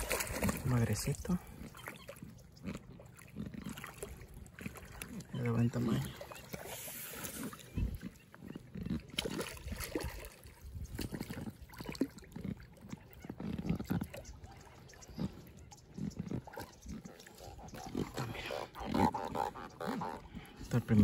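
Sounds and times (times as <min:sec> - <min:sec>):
water lapping against float tube: 0:00.0 - 0:21.0.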